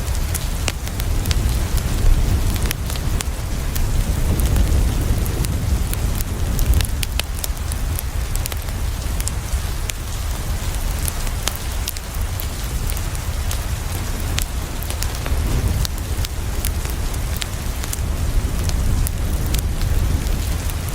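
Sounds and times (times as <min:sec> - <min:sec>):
rain on a window: 0:00.0 - 0:20.9
wood fire crackling: 0:00.0 - 0:20.9.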